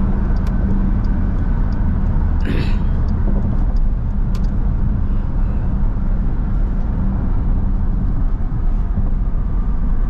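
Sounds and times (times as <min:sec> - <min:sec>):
car engine drone from cabin: 0:00.0 - 0:10.0.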